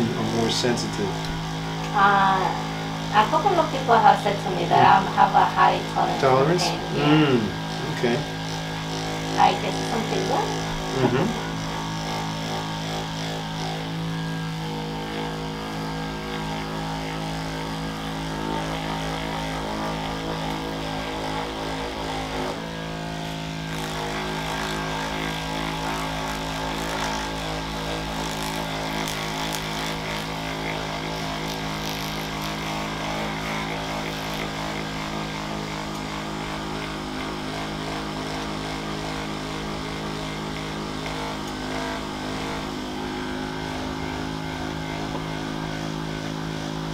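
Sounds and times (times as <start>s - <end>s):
massage gun motor buzz: 0.0s - 46.9s.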